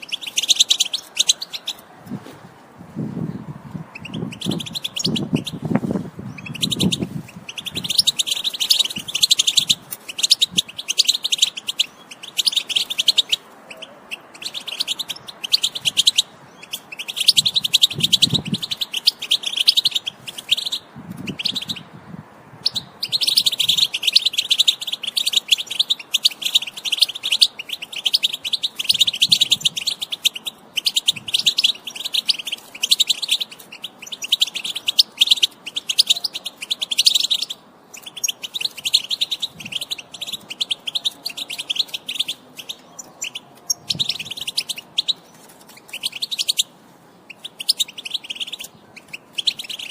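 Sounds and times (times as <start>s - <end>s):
goldfinch twittering song: 0.0s - 1.8s, 3.3s - 21.9s, 22.6s - 46.7s, 47.3s - 49.9s.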